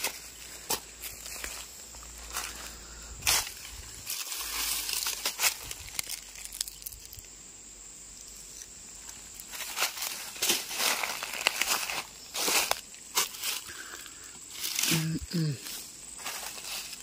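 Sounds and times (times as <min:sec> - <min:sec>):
footsteps on dry leaves: 0:00.0 - 0:07.2, 0:09.0 - 0:17.0.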